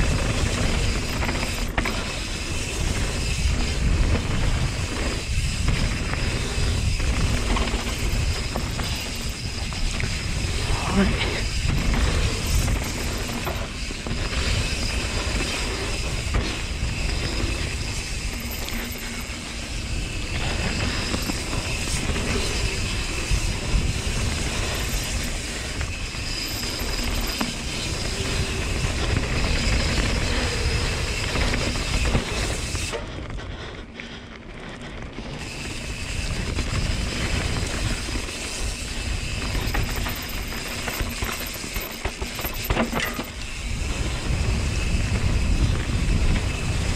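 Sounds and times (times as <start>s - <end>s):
bike rattling on gravel: 0.0s - 46.9s
wind rushing over microphone: 0.0s - 46.9s.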